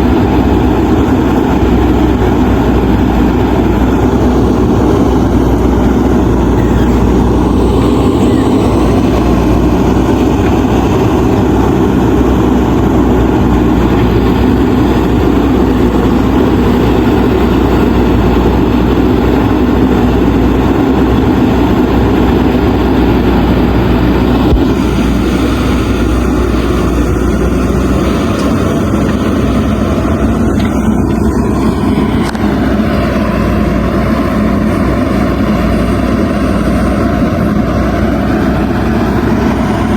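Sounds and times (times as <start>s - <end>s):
diesel backhoe engine running: 0.0s - 39.9s.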